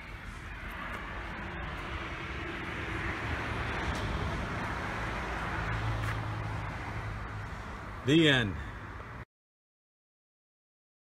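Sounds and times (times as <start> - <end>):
road traffic passing: 0.0 - 9.3.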